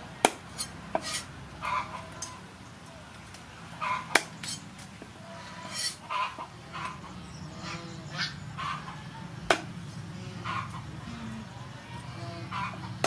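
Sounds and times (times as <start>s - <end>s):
waterfowl calling: 0.0s - 2.5s, 3.7s - 13.0s.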